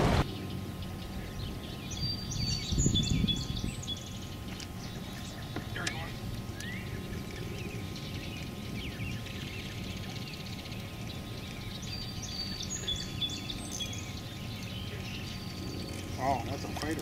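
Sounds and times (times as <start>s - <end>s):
low outdoor rumble: 0.0s - 17.0s
birds chirping and calling: 0.2s - 17.0s.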